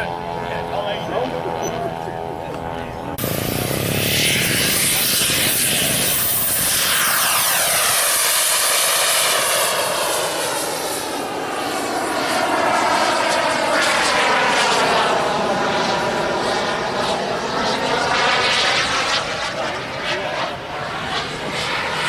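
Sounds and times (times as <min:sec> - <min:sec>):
model jet engine roaring: 0:00.0 - 0:22.0.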